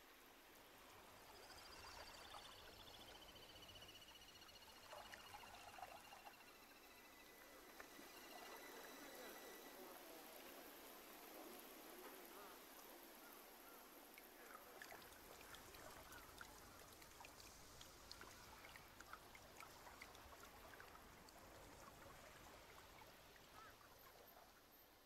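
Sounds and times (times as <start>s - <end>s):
faint chirps: 1.1s - 19.3s, 23.0s - 25.0s.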